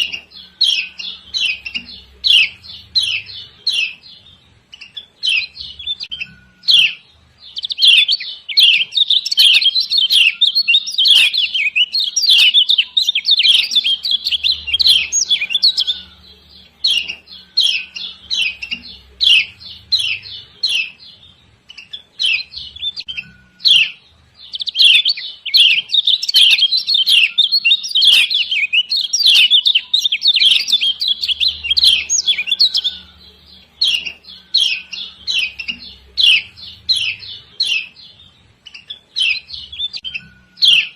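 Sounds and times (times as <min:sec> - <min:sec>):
bird chirping rapidly: 0:00.0 - 0:40.9.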